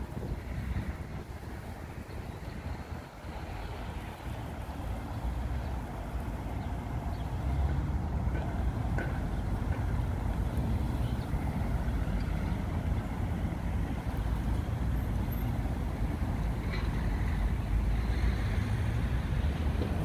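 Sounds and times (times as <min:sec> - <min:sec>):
cars passing: 0:00.0 - 0:20.0
traffic low rumble: 0:00.0 - 0:20.0.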